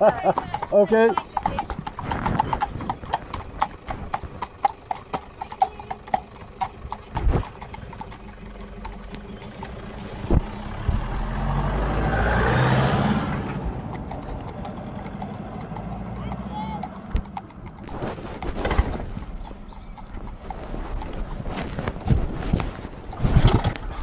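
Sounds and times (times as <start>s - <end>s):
hooves clip-clopping on tarmac: 0.0s - 11.4s, 13.3s - 24.0s
pickup truck passing: 0.0s - 22.0s.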